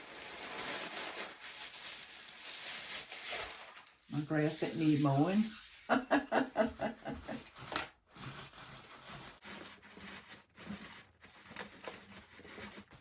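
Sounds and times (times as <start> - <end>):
paper grass crinkling: 0.0 - 13.0.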